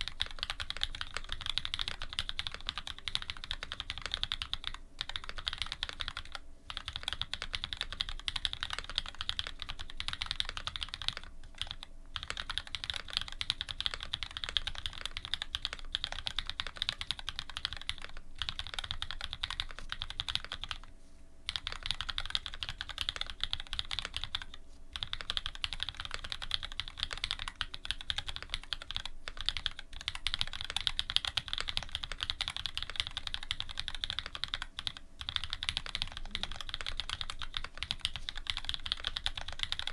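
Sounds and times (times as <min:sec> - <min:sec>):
mechanical keyboard typing: 0:00.0 - 0:20.9, 0:21.5 - 0:39.9.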